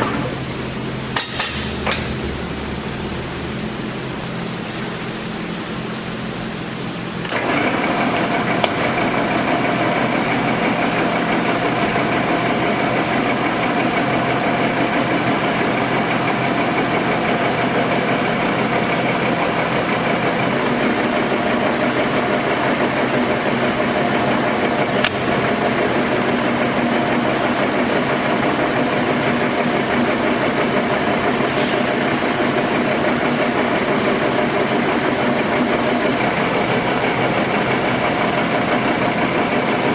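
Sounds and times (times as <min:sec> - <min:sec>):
lathe humming and whining: 0:00.0 - 0:39.9.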